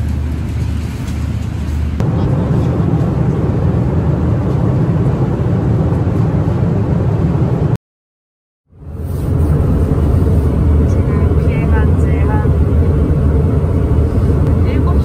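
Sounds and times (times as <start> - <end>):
airliner cabin engine rumble: 0.0 - 7.8, 8.7 - 15.0.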